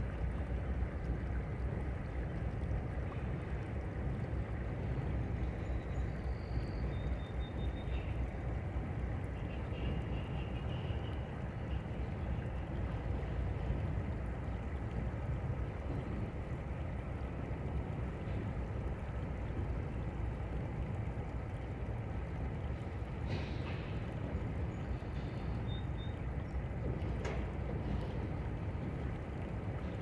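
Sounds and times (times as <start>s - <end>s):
train cars rolling across steel bridge: 0.0s - 30.0s.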